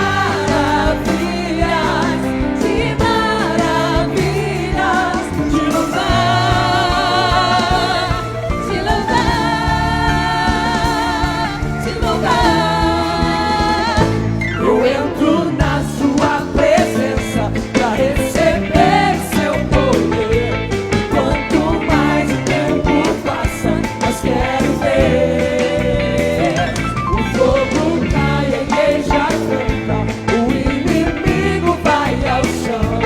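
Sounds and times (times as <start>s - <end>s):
group singing gospel song with band: 0.0s - 33.0s.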